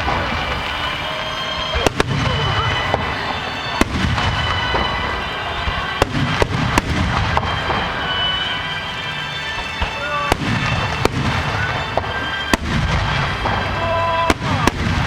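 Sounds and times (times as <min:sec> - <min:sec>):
firework shells bursting: 0:00.0 - 0:15.0
rumble and crackle of fireworks: 0:00.0 - 0:15.0.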